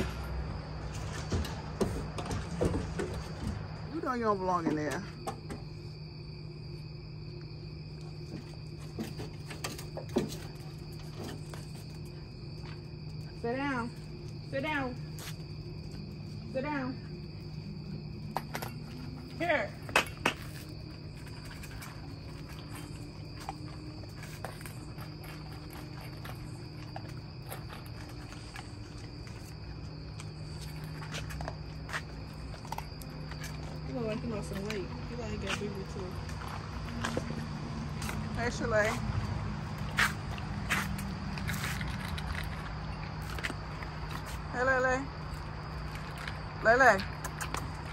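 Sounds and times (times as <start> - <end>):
night insects chirring: 0.0 - 47.9.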